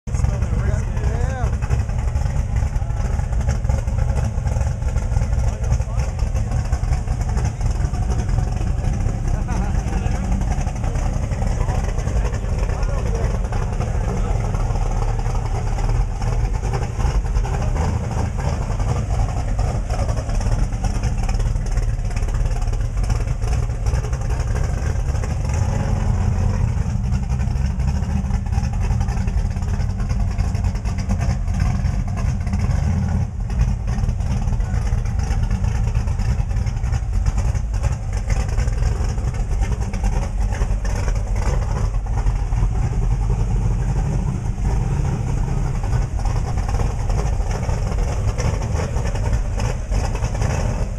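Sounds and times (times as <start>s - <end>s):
race car engine idling: 0.0s - 50.9s.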